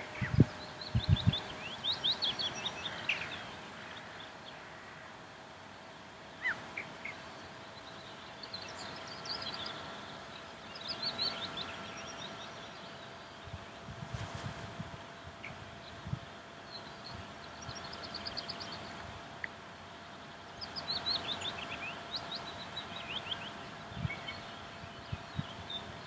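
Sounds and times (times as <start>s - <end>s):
faint steady hum: 0.0s - 26.0s
open-air background noise: 0.0s - 26.0s
songbirds chirping: 0.0s - 26.0s.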